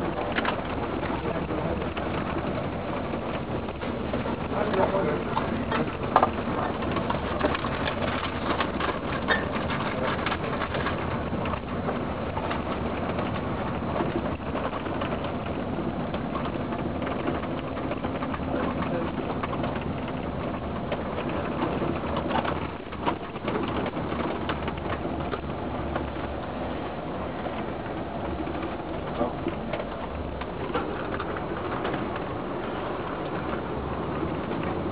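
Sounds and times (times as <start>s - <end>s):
vehicle engine and road noise: 0.0s - 34.9s.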